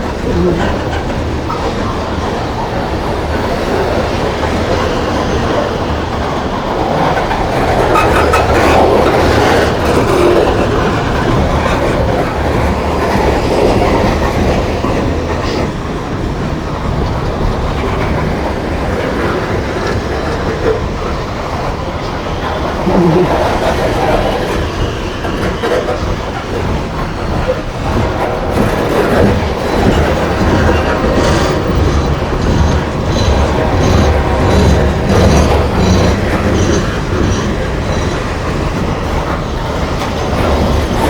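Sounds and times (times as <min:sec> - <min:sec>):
freight train rumbling past: 0:00.0 - 0:41.0
wheels clacking over rail joints: 0:00.0 - 0:41.0.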